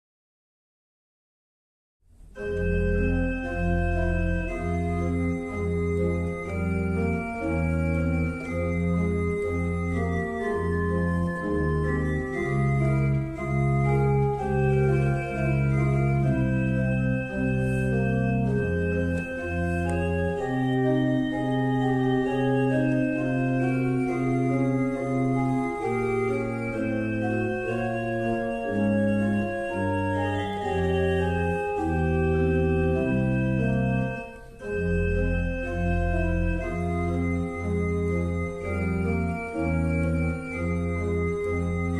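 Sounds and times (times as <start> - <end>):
organ playing chords: 2.2 - 41.9.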